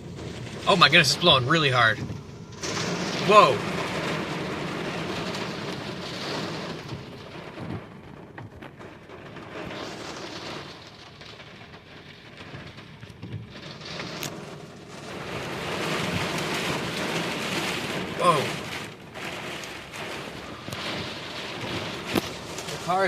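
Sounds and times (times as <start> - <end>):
rain on car: 0.0 - 23.0
strong wind gusts buffeting car: 0.0 - 23.0.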